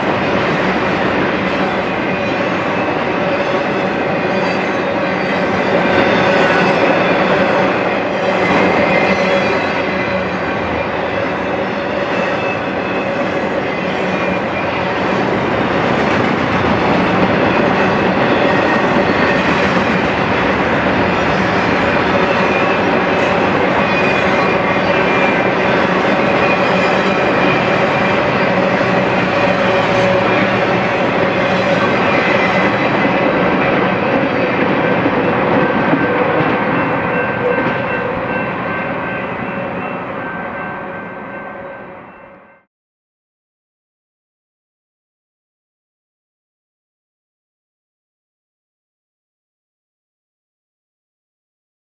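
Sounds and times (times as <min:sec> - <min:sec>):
freight train cars rolling: 0:00.0 - 0:42.3.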